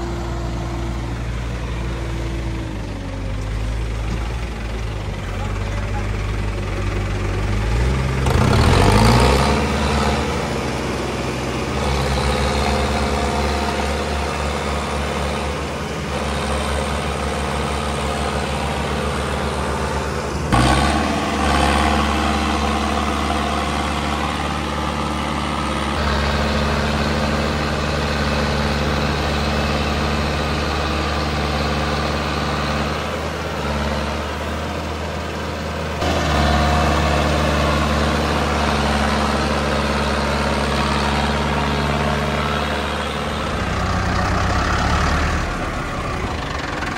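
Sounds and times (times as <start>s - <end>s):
tractor diesel engines running: 0.0s - 46.9s.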